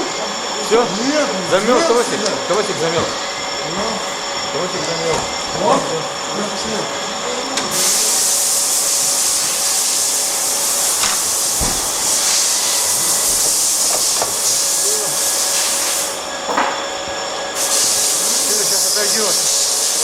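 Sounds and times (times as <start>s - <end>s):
hissing jet of hot air: 1.3s - 16.4s, 17.5s - 20.0s.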